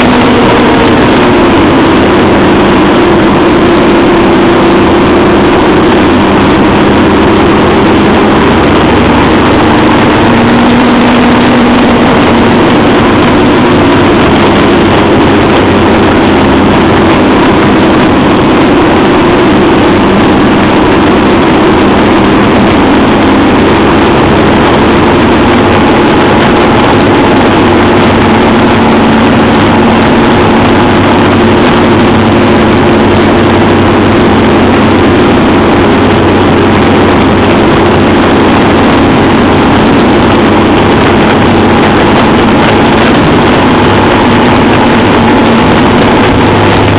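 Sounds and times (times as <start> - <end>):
loud motorcycle engine: 0.0 - 46.9
rushing noise: 0.0 - 46.9.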